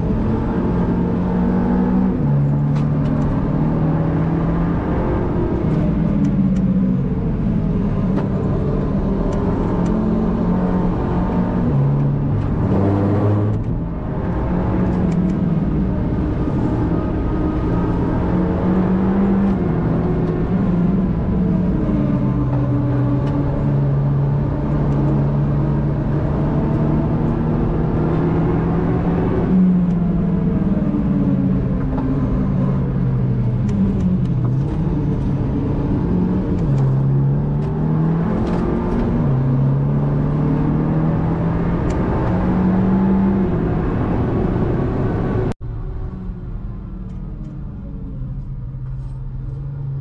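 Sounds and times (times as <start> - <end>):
car engine revving: 0.0 - 46.1.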